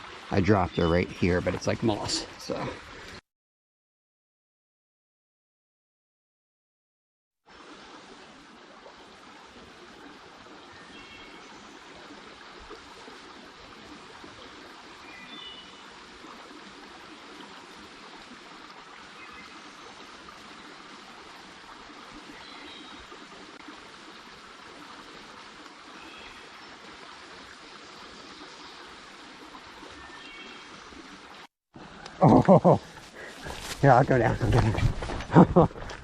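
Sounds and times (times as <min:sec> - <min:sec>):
creek water running over rocks: 0:00.0 - 0:03.2, 0:07.5 - 0:36.0.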